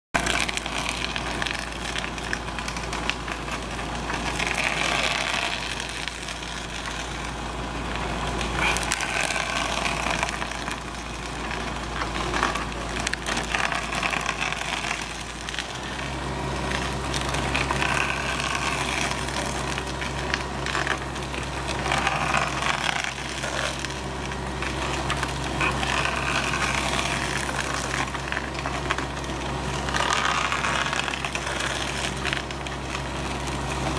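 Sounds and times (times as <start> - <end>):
engine and hydraulics humming: 0.1 - 33.9
wood crunching and splintering: 0.1 - 33.9.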